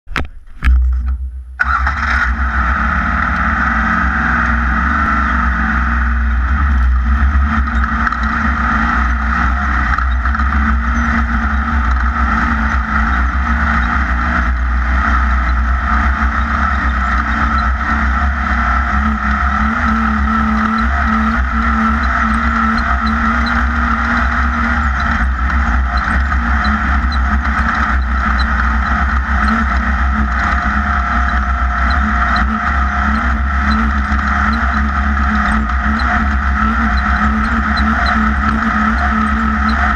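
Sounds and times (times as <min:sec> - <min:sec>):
off-road buggy engine running: 0:00.0 - 0:39.9.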